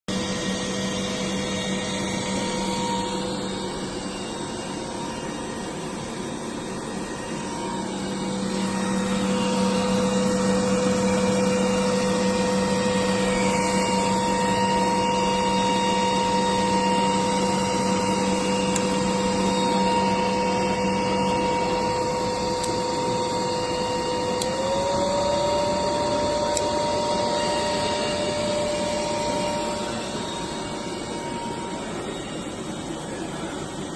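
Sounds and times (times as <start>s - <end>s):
high whine: 0.1s - 33.9s.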